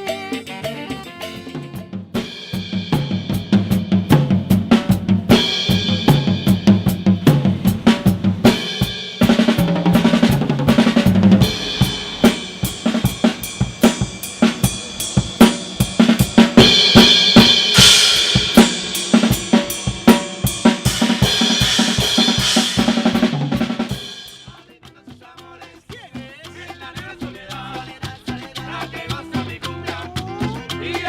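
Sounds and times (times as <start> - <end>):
drum kit played live: 0.0 - 31.0.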